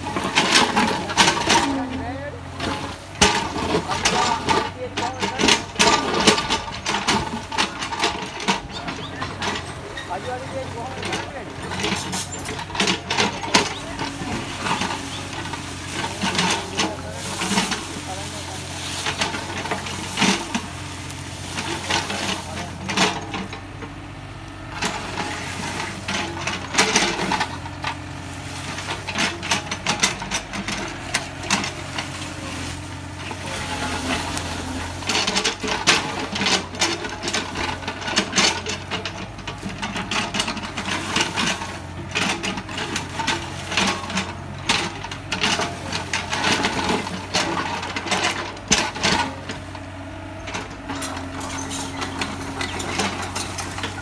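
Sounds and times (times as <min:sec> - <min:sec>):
bucket scraping and clattering: 0:00.0 - 0:54.0
excavator engine running: 0:00.0 - 0:54.0.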